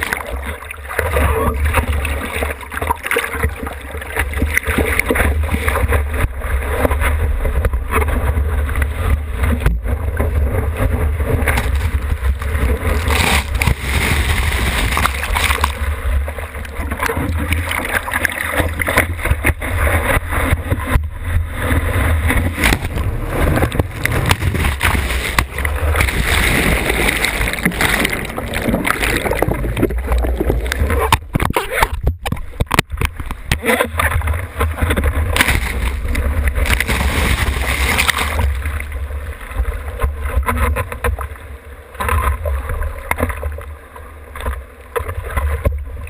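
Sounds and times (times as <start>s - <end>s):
low rumble of water buffeting: 0.0s - 46.0s
sea water sloshing and splashing: 0.0s - 46.0s.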